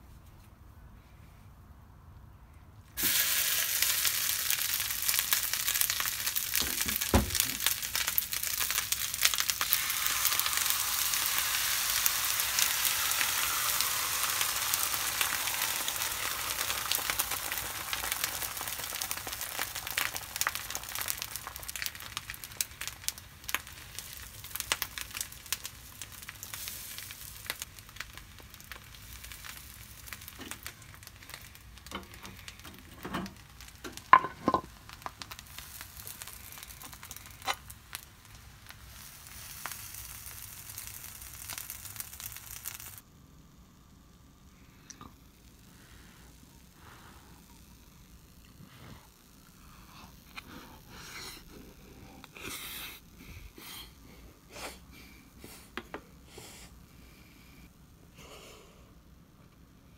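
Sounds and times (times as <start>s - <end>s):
food sizzling on a hot plate: 3.0s - 53.9s
crackles and pops: 3.0s - 56.2s.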